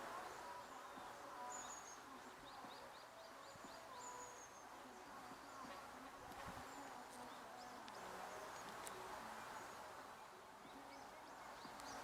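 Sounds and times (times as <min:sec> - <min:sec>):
quiet outdoor ambience: 0:00.0 - 0:12.0.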